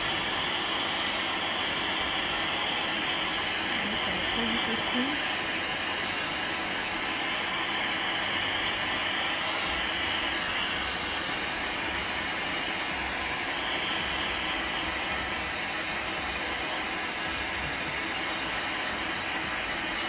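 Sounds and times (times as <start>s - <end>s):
hot air gun fan blowing: 0.0s - 20.0s.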